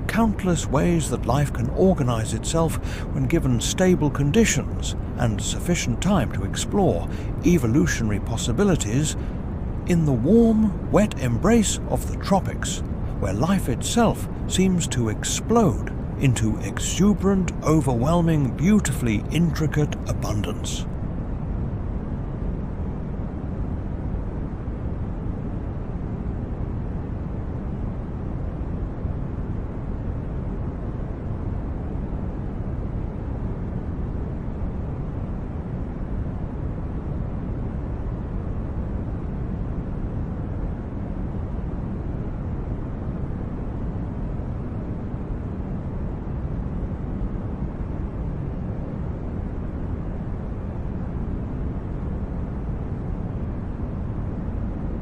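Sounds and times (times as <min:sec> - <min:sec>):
low rumbling noise: 0:00.0 - 0:55.0.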